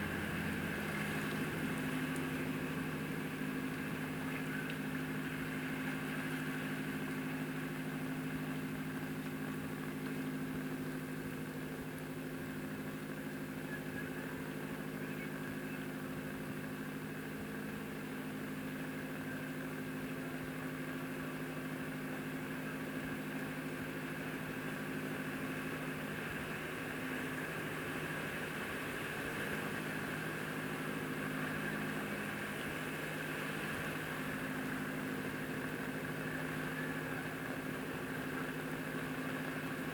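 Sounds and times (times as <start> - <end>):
steady engine hum: 0.0 - 39.9.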